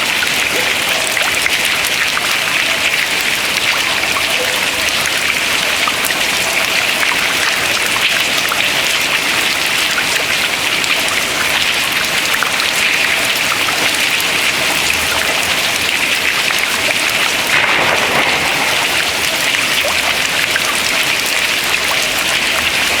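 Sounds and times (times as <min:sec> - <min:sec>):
water dripping into water: 0:00.0 - 0:23.0.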